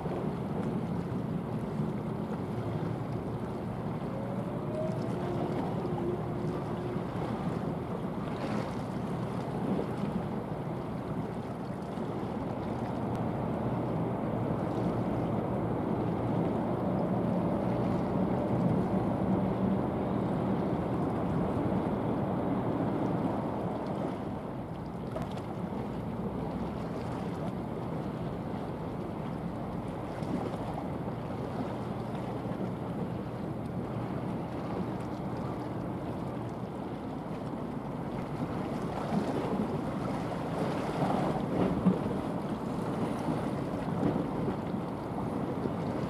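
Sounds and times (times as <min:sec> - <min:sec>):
low ship engine drone: 0:00.0 - 0:46.0
waves: 0:00.0 - 0:46.0.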